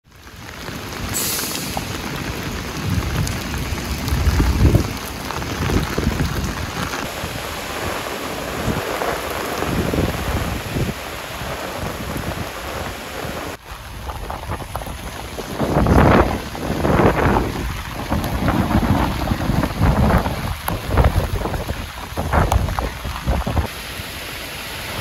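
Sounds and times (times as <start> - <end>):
torrential rain on pavement: 0.0 - 25.0.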